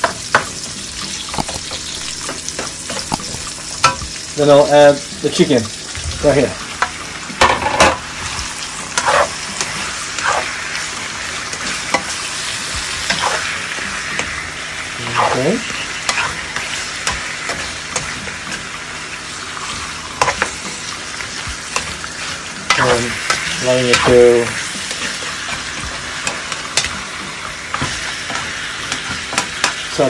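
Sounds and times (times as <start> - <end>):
chicken sizzling in oil: 0.0 - 30.0.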